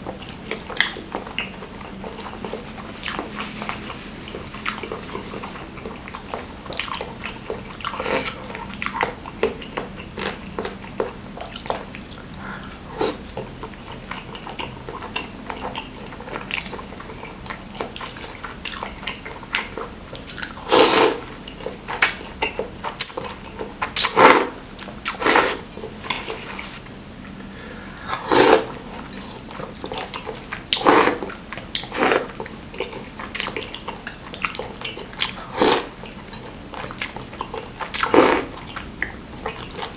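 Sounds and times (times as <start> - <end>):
wet chewing and slurping noodles: 0.0 - 39.9.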